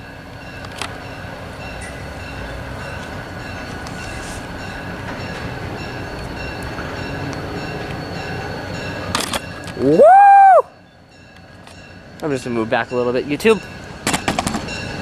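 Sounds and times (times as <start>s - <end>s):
diesel train rumbling past: 0.0s - 15.0s.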